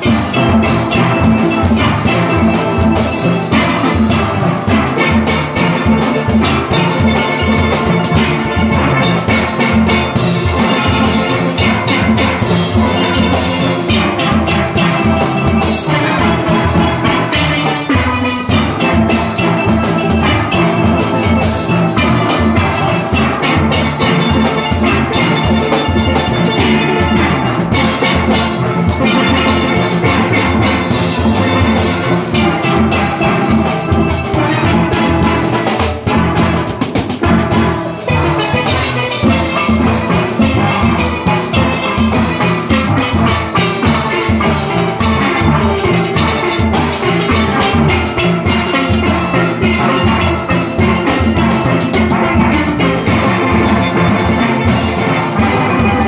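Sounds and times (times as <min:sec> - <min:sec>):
regular drum beat: 0:00.0 - 0:56.0
steel orchestra playing: 0:00.0 - 0:56.0.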